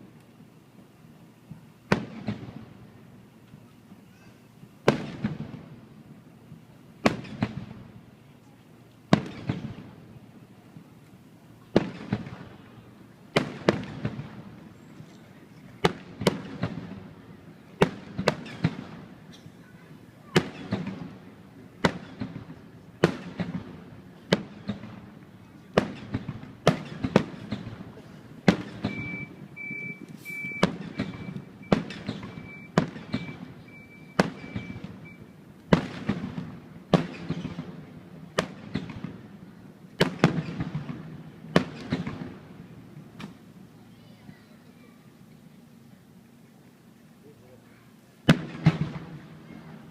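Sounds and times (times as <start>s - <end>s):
fireworks booming: 1.4s - 8.2s, 9.1s - 11.0s, 11.6s - 43.7s, 48.2s - 49.9s.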